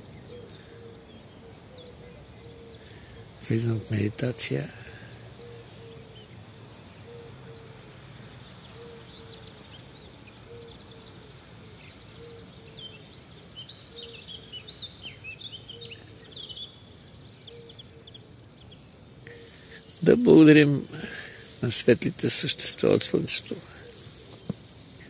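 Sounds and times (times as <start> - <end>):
low outdoor hum: 0.0 - 25.0
small birds chirping: 0.0 - 25.0.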